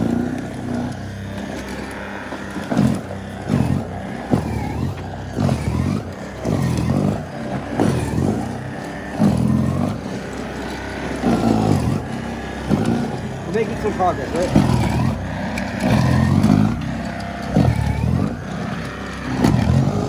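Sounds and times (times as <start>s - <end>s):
snowblower motor labouring: 0.0s - 20.0s.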